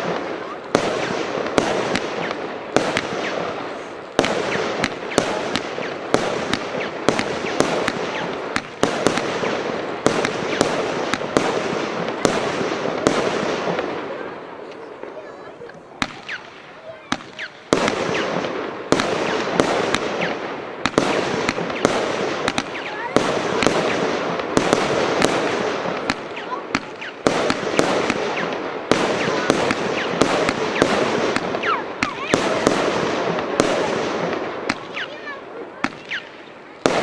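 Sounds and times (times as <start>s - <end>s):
fireworks crackling: 0.0s - 37.0s
fireworks shots and bangs: 0.0s - 37.0s.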